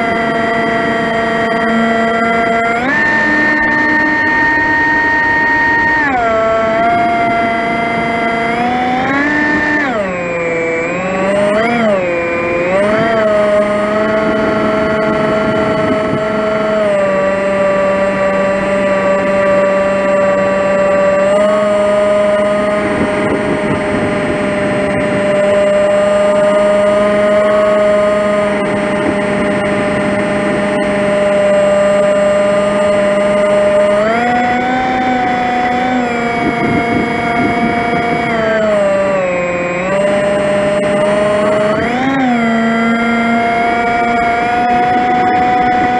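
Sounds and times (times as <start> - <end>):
electric motor and propeller whine: 0.0 - 45.9.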